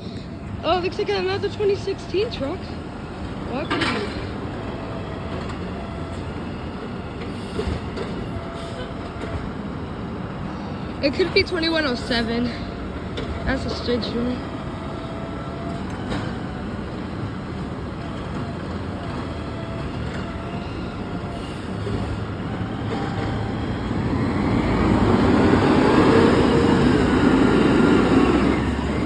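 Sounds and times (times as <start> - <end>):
garbage truck engine running: 0.6 - 10.2, 11.1 - 29.0.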